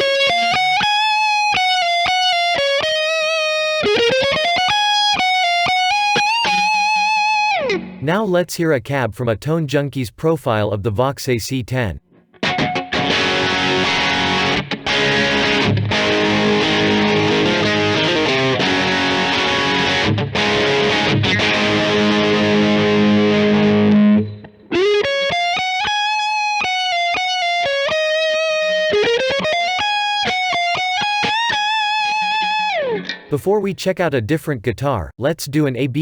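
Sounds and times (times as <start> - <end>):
distorted electric guitar: 0.0 - 8.0, 12.4 - 33.3.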